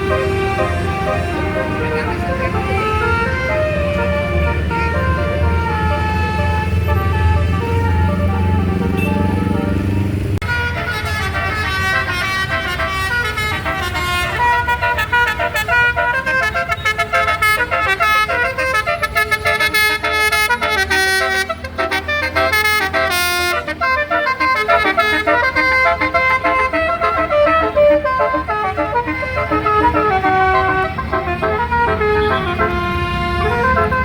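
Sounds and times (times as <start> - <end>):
engine running: 0.0 - 34.0
musical air horn playing tune: 0.0 - 34.0.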